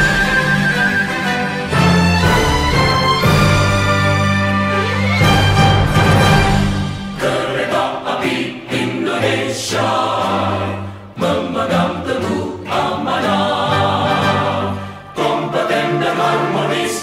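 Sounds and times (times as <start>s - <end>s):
choir singing held notes: 0.0s - 17.0s.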